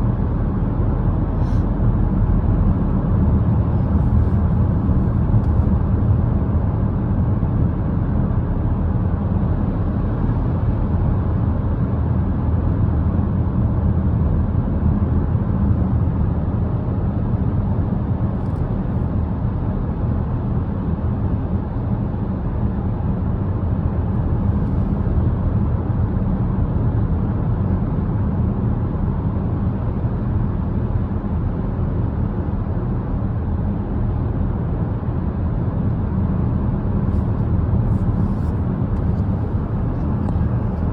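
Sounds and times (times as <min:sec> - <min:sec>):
vehicle engine and tyre rumble: 0:00.0 - 0:40.9.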